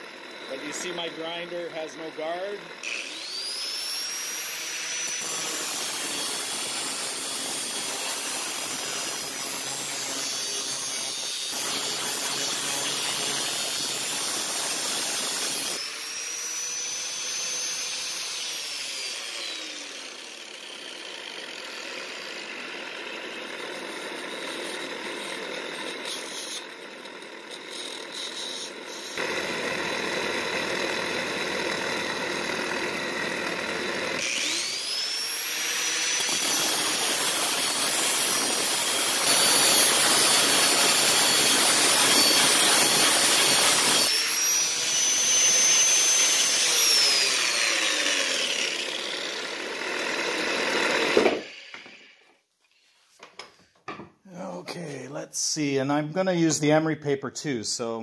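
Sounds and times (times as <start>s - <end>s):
angle grinder grinding steel: 0.0s - 53.0s.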